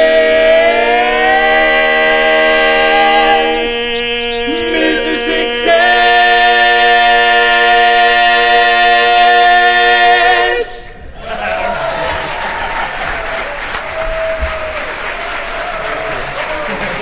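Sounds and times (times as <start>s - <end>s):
quartet singing a cappella: 0.0s - 17.0s.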